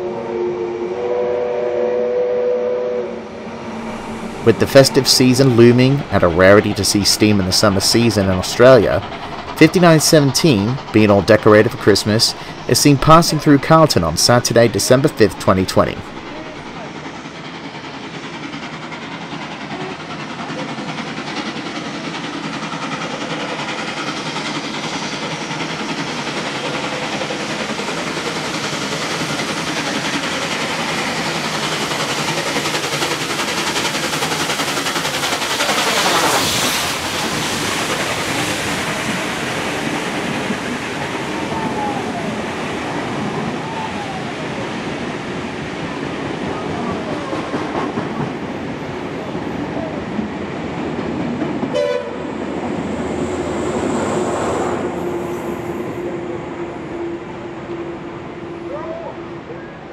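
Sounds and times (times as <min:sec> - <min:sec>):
carriages running on rails: 0:00.0 - 0:59.9
steam locomotive passing: 0:00.0 - 0:59.9.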